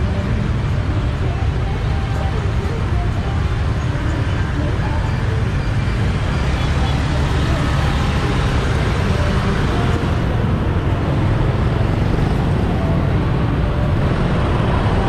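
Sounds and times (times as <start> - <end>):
motorbike and scooter traffic: 0.0 - 15.0
road noise: 0.0 - 15.0.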